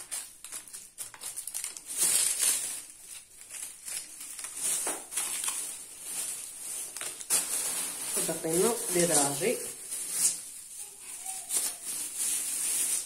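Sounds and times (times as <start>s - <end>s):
plastic bag crinkling: 0.0s - 13.0s
plastic sweet wrappers crinkling: 0.0s - 13.0s.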